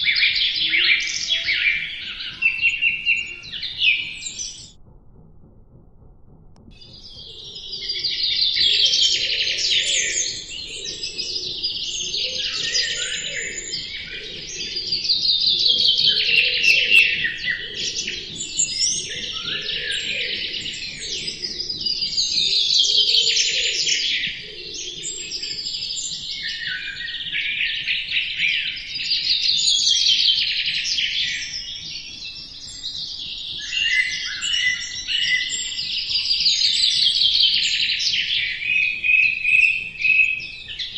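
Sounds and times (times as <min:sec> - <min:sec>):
songbirds chirping: 0:00.0 - 0:04.8, 0:06.7 - 0:40.9.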